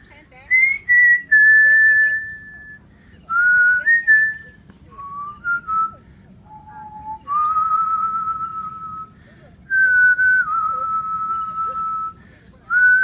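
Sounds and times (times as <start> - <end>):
person whistling a slow tune: 0.6 - 9.1, 9.7 - 13.0.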